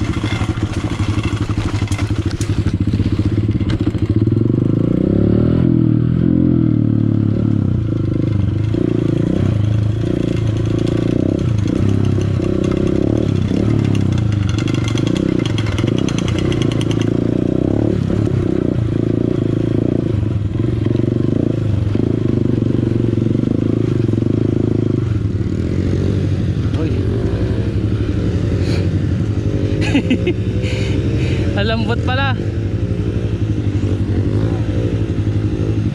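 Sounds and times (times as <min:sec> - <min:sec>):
dirt bike engine running: 0:00.0 - 0:35.9.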